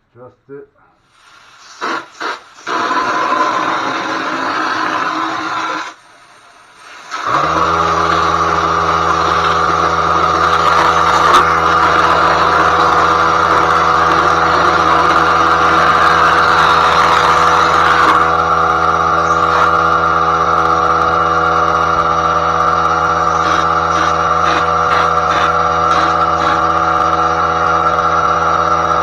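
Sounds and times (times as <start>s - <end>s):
hopper gun hissing: 1.1s - 27.8s
air compressor motor hum: 1.2s - 6.0s, 6.6s - 29.0s.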